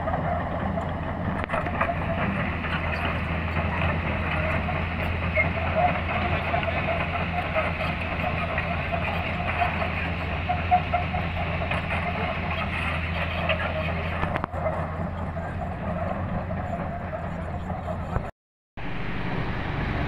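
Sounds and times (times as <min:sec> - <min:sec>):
diesel engine running: 0:00.0 - 0:20.0
track chains rattling and clanking: 0:00.1 - 0:18.2.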